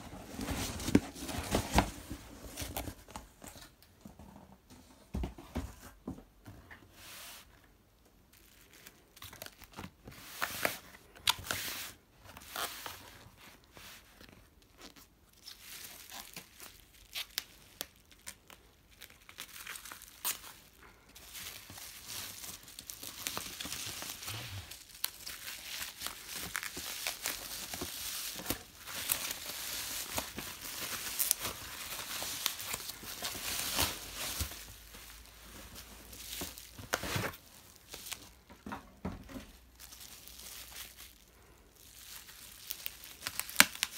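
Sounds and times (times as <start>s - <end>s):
bubble wrap crinkling: 8.2s - 43.9s.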